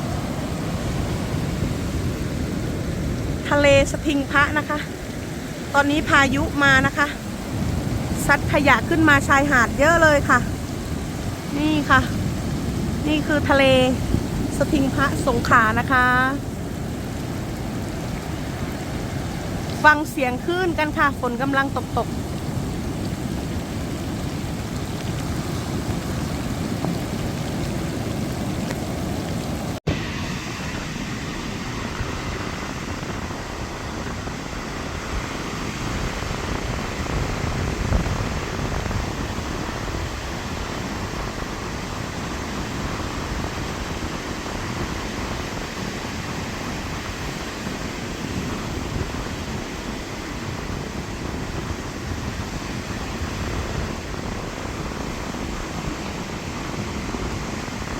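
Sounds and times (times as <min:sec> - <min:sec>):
rain falling: 0:00.0 - 0:57.9
sea waves surging onto beach: 0:00.0 - 0:57.9.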